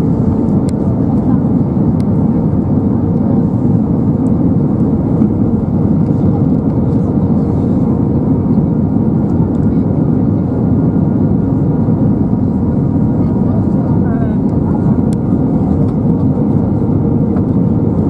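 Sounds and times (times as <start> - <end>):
airplane cabin engine roar: 0.0 - 18.0.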